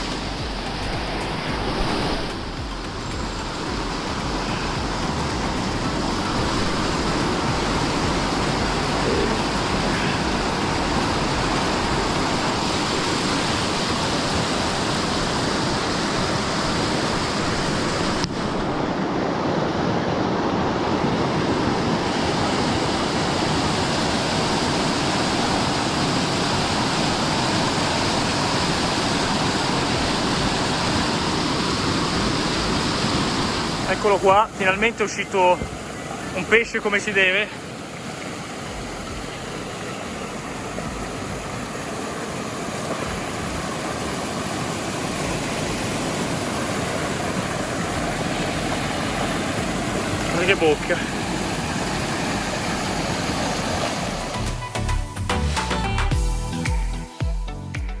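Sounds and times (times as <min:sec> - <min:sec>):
waterfall and river roaring: 0:00.0 - 0:55.8.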